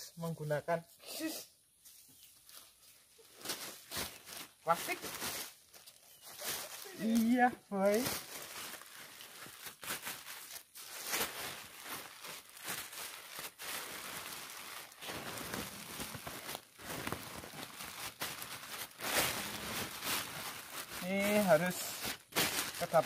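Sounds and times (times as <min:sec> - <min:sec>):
plastic sheet crinkling: 0:02.4 - 0:23.0.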